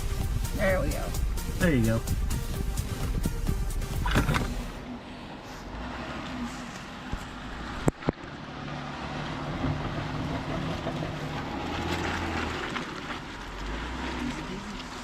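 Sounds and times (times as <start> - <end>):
off-road vehicle engine running: 0.0 - 15.0
tyre and trail noise: 0.0 - 15.0.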